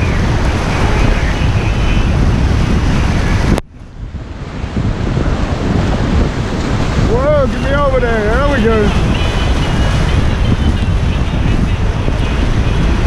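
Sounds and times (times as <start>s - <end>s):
rushing whitewater: 0.0s - 13.0s
wind buffeting microphone: 0.0s - 13.0s.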